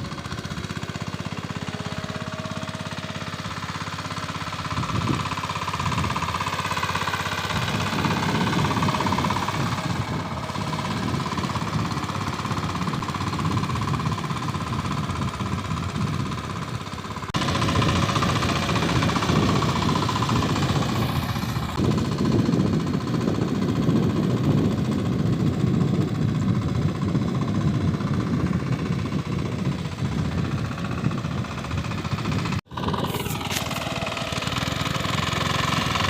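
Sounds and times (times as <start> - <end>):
diesel engine chugging: 0.0 - 36.0.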